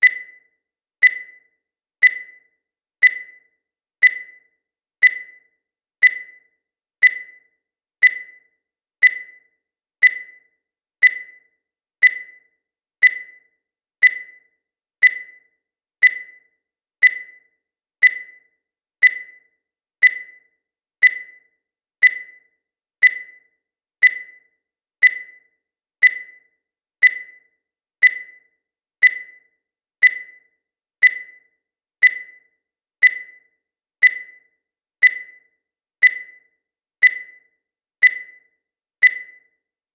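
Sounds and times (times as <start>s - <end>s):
timer beeping: 0.0s - 39.8s.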